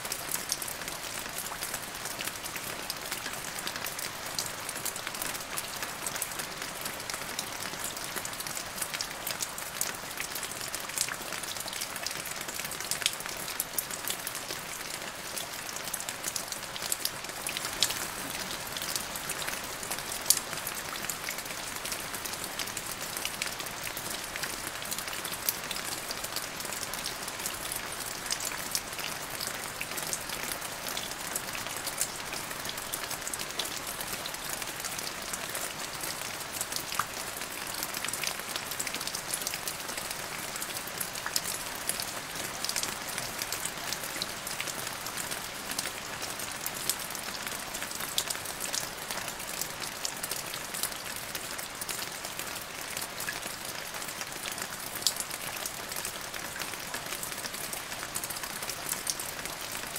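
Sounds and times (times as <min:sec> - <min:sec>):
light rain on pavement: 0:00.0 - 0:59.9
raindrops into puddle: 0:00.0 - 0:59.9.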